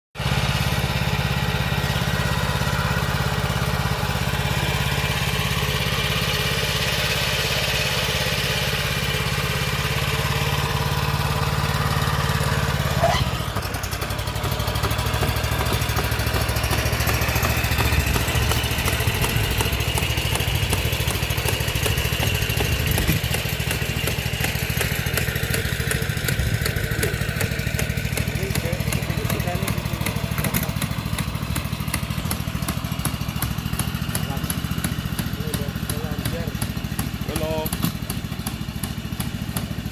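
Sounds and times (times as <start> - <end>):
small engine running: 0.2 - 39.9.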